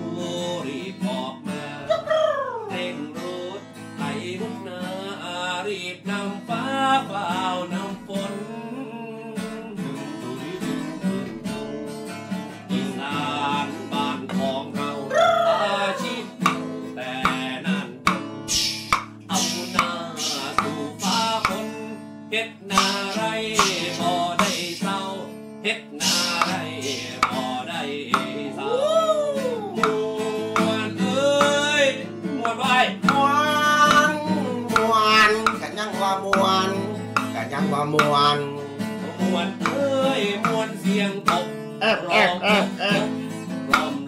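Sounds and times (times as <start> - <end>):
acoustic guitar strumming: 0.0 - 44.0
man singing: 0.0 - 44.0.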